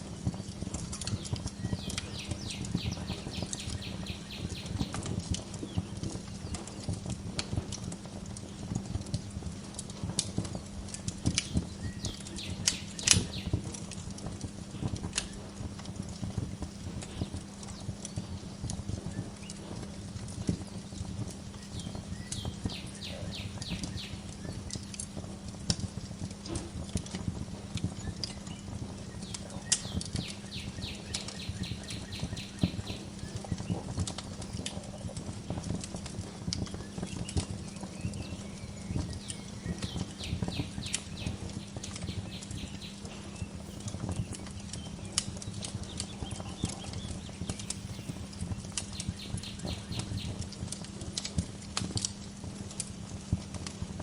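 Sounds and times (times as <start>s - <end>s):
low steady fire rumble: 0.0s - 54.0s
wood fire crackling and popping: 0.0s - 54.0s.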